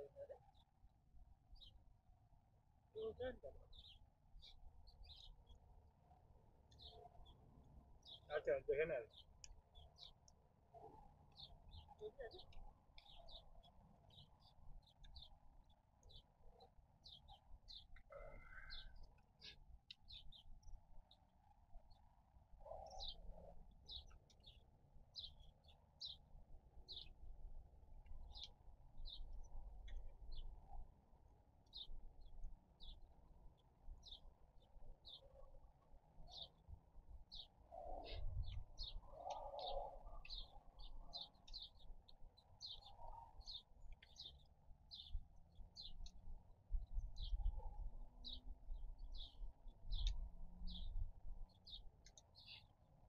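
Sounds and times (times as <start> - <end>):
small birds chirping faintly: 0.0 - 53.0.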